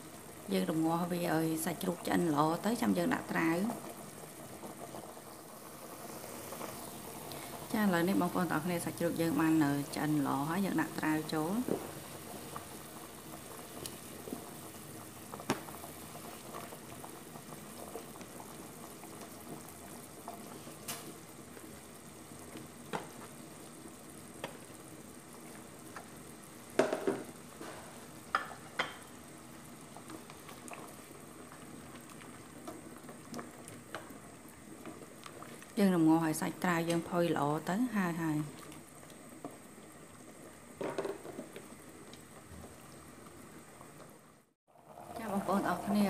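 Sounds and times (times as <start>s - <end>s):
broth bubbling in a pot: 0.0s - 46.0s.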